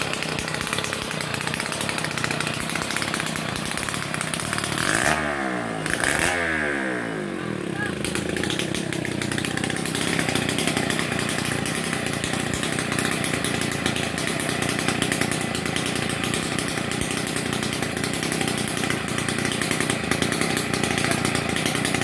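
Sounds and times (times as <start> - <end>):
chainsaw sawing through trunk: 0.0 - 22.0.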